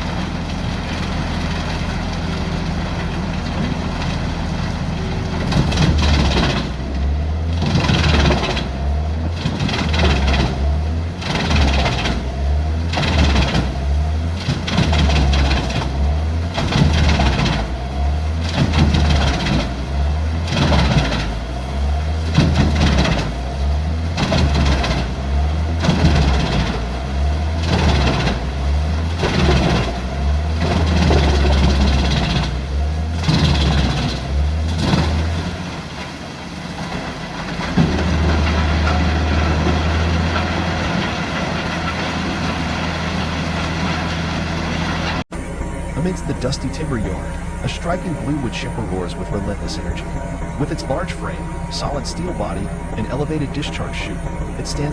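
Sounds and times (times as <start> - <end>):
wood chipper engine drone: 0.0 - 54.9.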